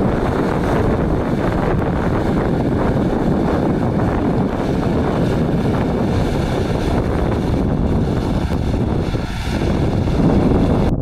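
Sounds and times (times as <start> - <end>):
combine harvester rumble: 0.0 - 11.0
wind buffeting microphone: 0.0 - 11.0.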